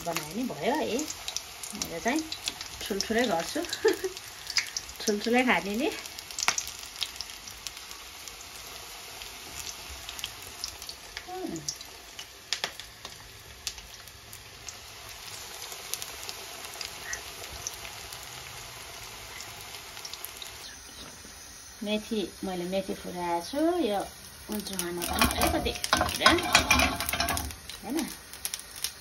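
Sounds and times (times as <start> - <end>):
fritters deep-frying in oil: 0.0 - 29.0.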